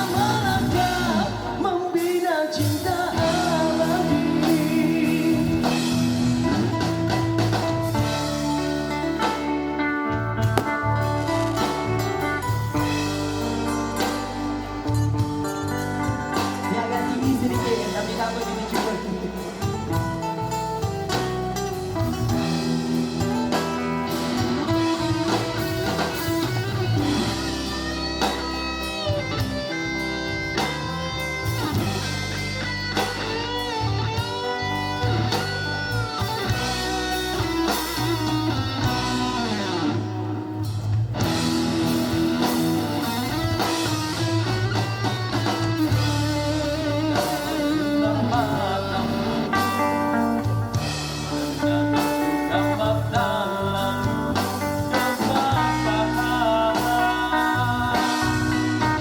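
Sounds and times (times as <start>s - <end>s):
bass line: 0.0s - 59.0s
live band playing: 0.0s - 59.0s
lead guitar solo: 3.2s - 59.0s.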